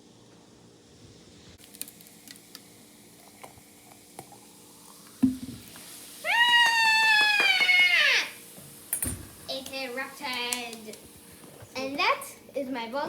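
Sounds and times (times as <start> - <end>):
vinegar fizzing on baking powder: 1.6 - 12.3.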